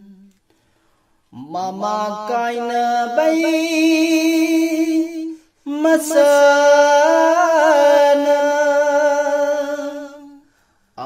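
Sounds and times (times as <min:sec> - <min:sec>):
man singing unaccompanied: 0:00.0 - 0:00.4, 0:01.3 - 0:11.0.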